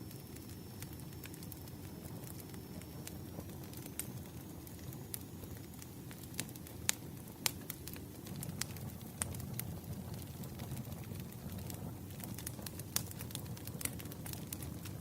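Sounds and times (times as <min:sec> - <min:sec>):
campfire rumble: 0:00.0 - 0:15.0
wood crackling and popping: 0:00.0 - 0:15.0.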